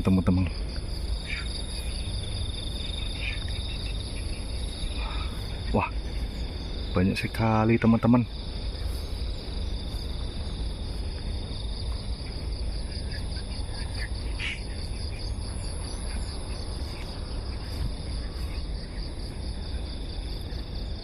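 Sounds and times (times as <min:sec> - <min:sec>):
bird calls: 0:00.0 - 0:11.1, 0:11.8 - 0:21.0
insects chirring: 0:00.0 - 0:21.0.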